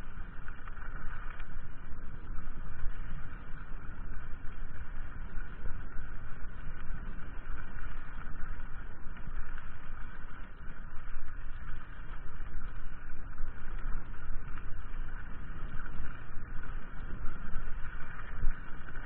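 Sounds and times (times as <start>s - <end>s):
bike tyres rolling over ground: 0.0s - 19.0s.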